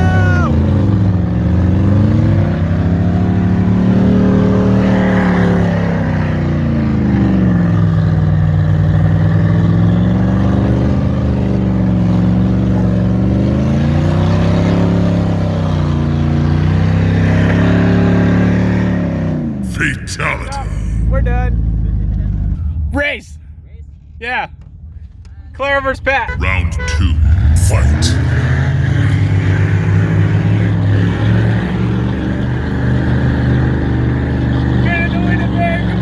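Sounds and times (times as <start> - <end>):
engine at full throttle: 0.0 - 22.9, 26.3 - 36.0.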